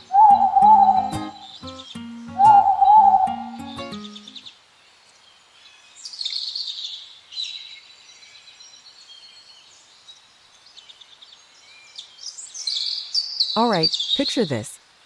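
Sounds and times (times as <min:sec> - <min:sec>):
songbirds singing and chirping: 0:00.0 - 0:14.5.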